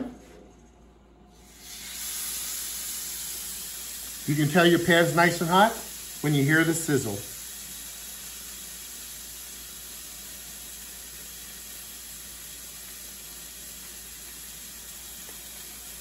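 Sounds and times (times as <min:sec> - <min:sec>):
food sizzling in a pan: 0:01.4 - 0:16.0.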